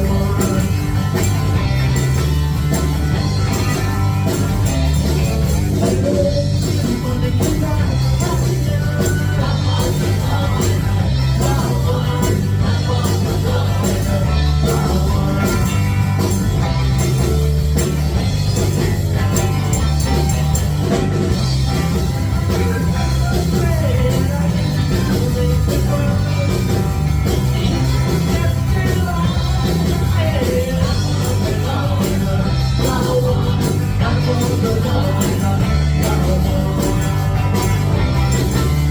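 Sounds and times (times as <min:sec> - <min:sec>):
person singing: 0:00.0 - 0:17.3, 0:18.6 - 0:38.9
live rock band playing: 0:00.0 - 0:38.9.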